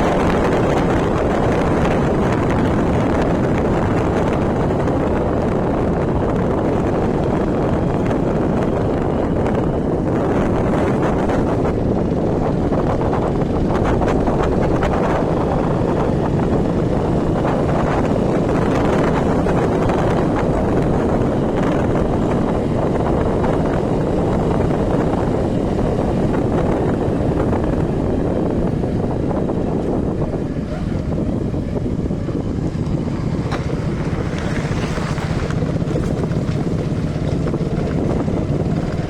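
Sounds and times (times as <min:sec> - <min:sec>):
moving vehicle rumble: 0:00.0 - 0:39.0
wind buffeting microphone: 0:00.0 - 0:39.0.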